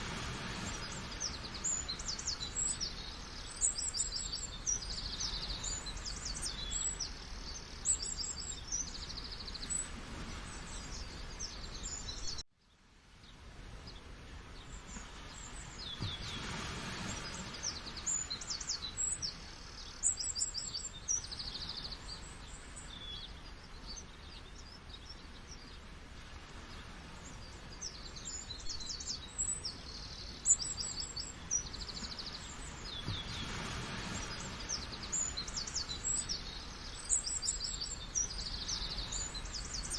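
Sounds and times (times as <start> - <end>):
birds chirping and trilling: 0.6 - 12.4, 14.6 - 39.9.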